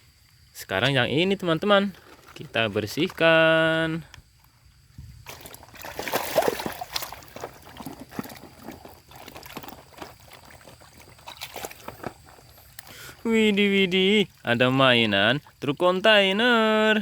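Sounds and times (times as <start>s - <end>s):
water sloshing and splashing: 1.4s - 3.6s, 4.7s - 16.9s.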